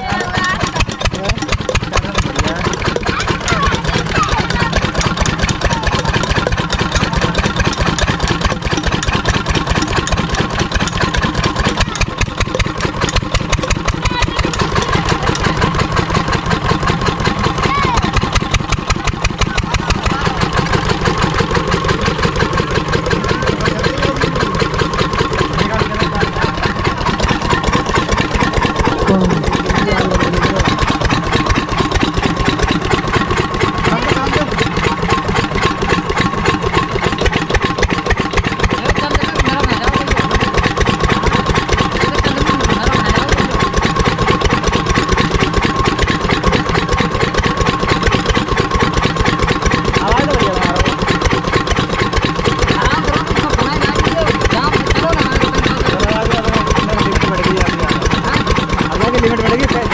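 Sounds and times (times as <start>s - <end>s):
diesel pump engine running: 0.0s - 59.9s.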